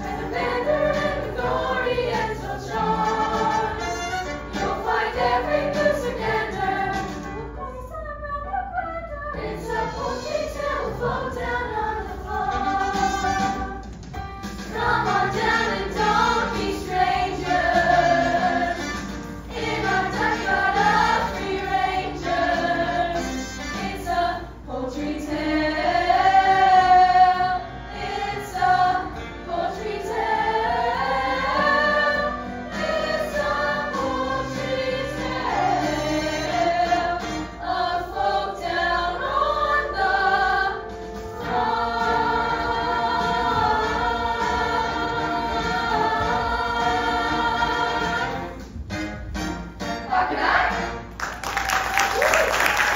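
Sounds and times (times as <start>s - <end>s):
young chorus singing: 0.0s - 7.2s, 9.2s - 13.9s, 14.7s - 48.6s, 50.0s - 51.0s
musical accompaniment: 0.0s - 52.9s.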